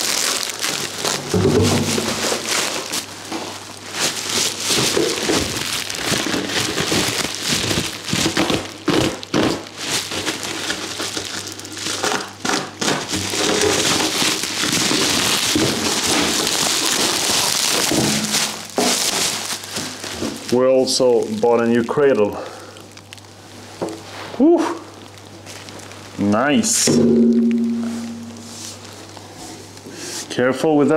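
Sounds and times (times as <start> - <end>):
bubble wrap crinkling: 0.0 - 29.9.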